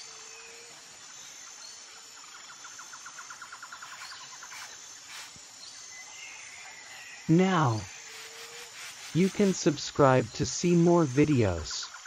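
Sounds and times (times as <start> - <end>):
soft hiss: 0.0 - 11.7
faint chirps: 0.0 - 12.0
high-pitched insect whine: 0.0 - 12.0.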